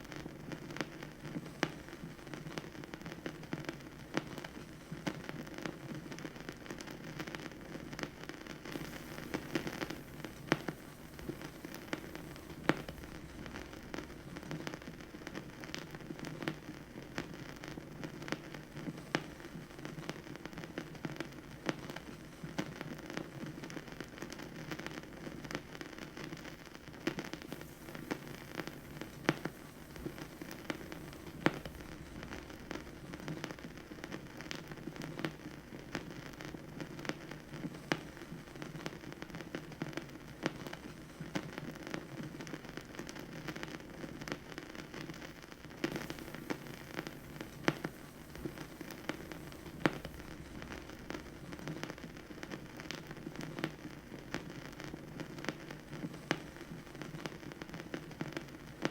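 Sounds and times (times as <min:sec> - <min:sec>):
vinyl crackles: 0:00.0 - 0:58.9
vinyl pops: 0:00.0 - 0:58.9
vinyl record hiss: 0:00.0 - 0:58.9.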